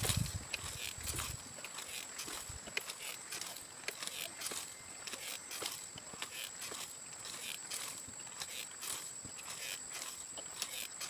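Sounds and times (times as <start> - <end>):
dry plant material rustling and crackling: 0.0 - 11.0.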